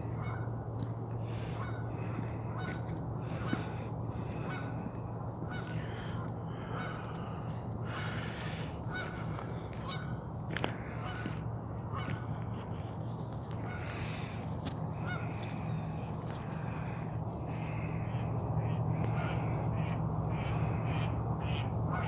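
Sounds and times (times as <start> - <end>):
geese honking: 0.0 - 12.8, 13.5 - 22.0.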